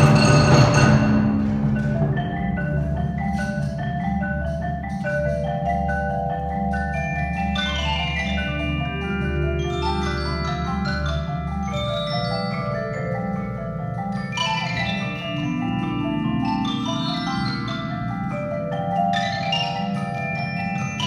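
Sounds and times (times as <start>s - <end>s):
marimbas playing: 0.0s - 21.0s.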